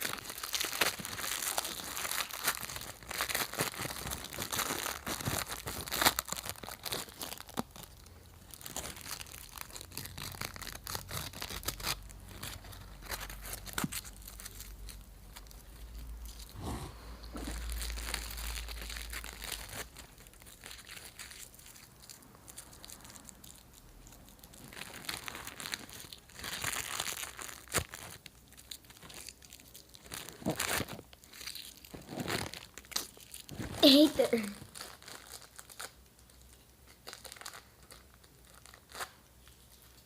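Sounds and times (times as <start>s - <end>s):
food wrappers crinkling: 0.0s - 16.6s, 17.2s - 40.0s
wrapper tearing: 0.0s - 16.6s, 17.3s - 40.0s.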